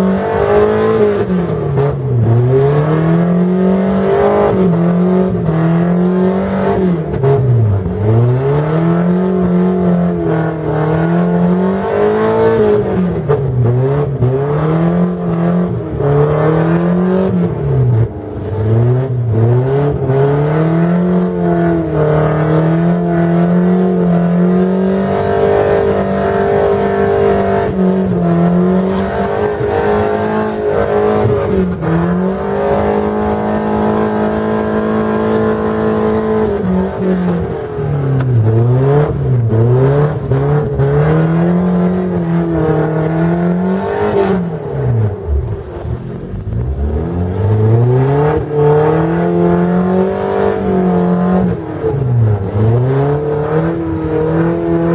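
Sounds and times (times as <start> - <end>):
car engine revving high: 0.0 - 54.9.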